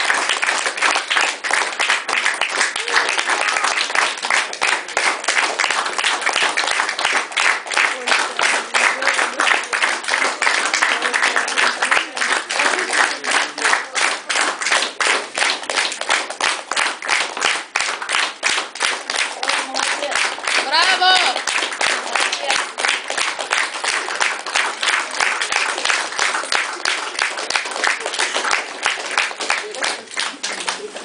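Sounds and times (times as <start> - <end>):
audience applause: 0.0 - 31.0
rhythmic clapping in unison: 0.0 - 31.0.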